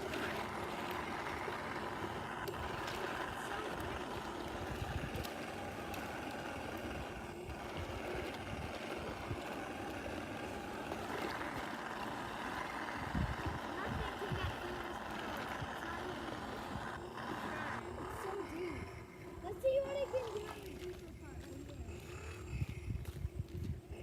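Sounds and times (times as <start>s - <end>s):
radio-controlled truck motor whirring: 0.0s - 21.0s
water and ice churning: 0.0s - 24.0s.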